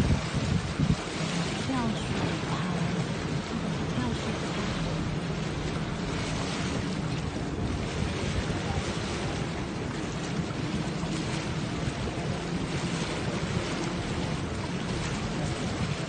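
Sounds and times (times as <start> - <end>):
water washing past boat: 0.0 - 16.0
wind buffeting microphone: 0.0 - 16.0.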